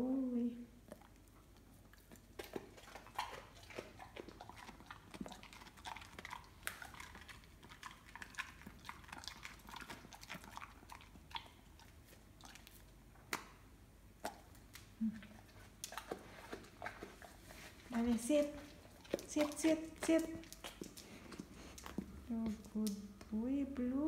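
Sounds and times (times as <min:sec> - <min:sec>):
dog chewing vegetables: 0:00.8 - 0:13.3, 0:14.1 - 0:23.4.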